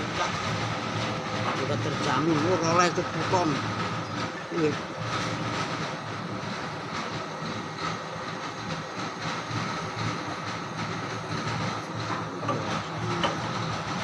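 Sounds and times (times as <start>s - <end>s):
machine rumbling: 0.0s - 14.0s.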